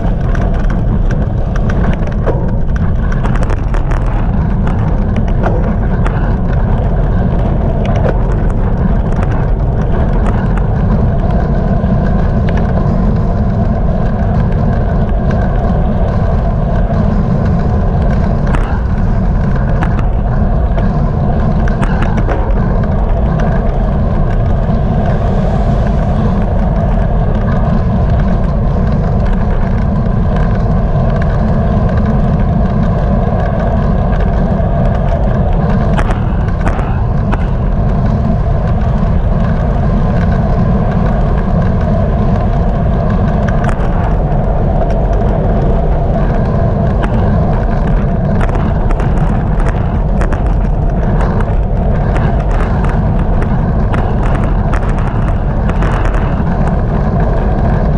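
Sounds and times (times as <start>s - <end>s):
small clicks: 0.0s - 57.9s
steady hum: 0.0s - 57.9s
wind buffeting microphone: 0.0s - 57.9s.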